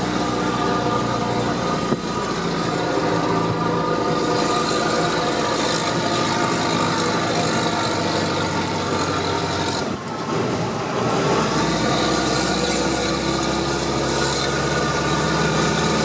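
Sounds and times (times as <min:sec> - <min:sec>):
truck diesel engine driving: 0:00.0 - 0:16.0.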